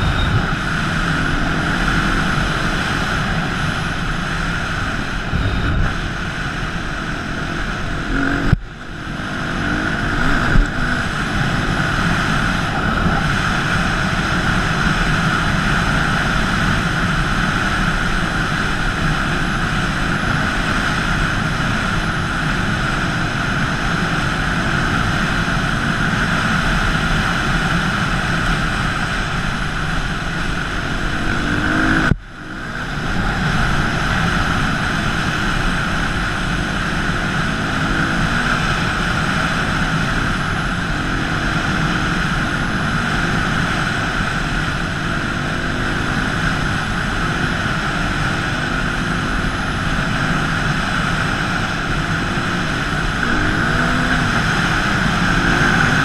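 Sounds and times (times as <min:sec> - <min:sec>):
dirt bike engine revving: 0:00.0 - 0:56.0
wind rush: 0:00.0 - 0:56.0.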